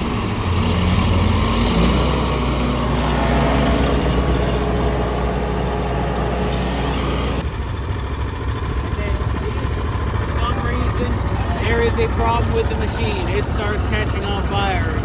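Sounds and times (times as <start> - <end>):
stump grinder engine rumbling: 0.0 - 15.0.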